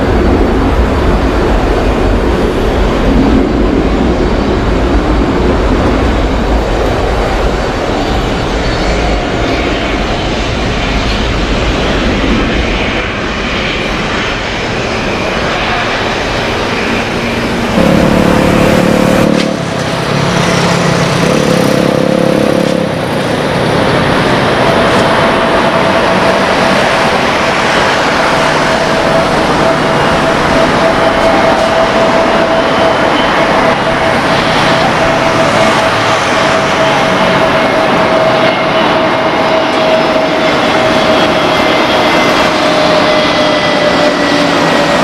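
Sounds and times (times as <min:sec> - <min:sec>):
jet airliner engine rush: 0:00.0 - 0:45.0
low pitched drone: 0:00.0 - 0:45.0
steady jet whine: 0:00.0 - 0:45.0.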